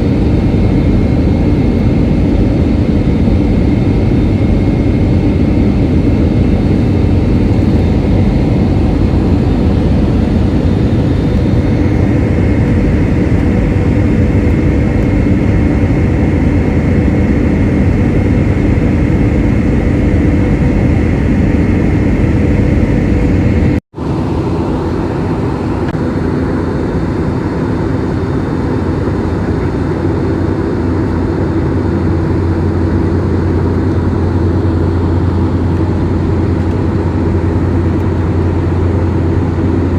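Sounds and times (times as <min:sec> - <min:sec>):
jet engines droning: 0:00.0 - 0:39.9
rushing air: 0:00.0 - 0:39.9.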